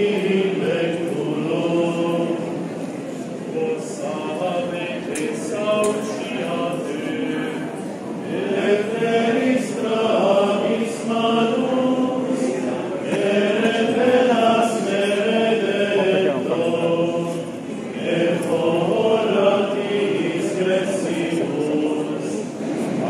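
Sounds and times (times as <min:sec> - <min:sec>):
men chanting a hymn in unison: 0:00.0 - 0:02.6, 0:03.5 - 0:22.6.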